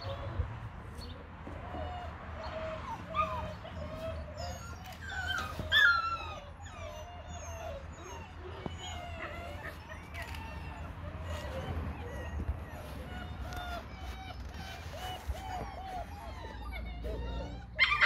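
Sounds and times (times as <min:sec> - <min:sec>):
puppy whimpering and yipping: 0:00.0 - 0:18.0.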